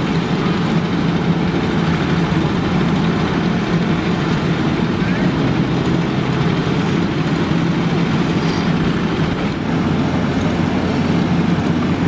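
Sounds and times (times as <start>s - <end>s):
heavy diesel engine drone: 0.0s - 12.0s.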